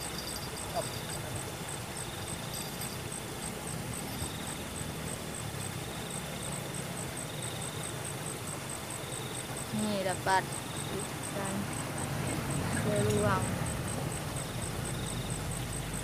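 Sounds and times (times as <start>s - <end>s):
background hiss: 0.0s - 16.0s
high wavering insect trill: 0.0s - 16.0s
insects chirping: 0.0s - 16.0s.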